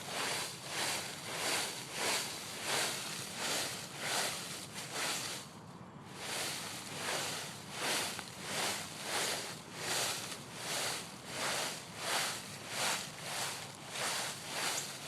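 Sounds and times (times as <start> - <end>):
dry leaves rustling and crunching: 0.0 - 5.5, 6.1 - 15.0.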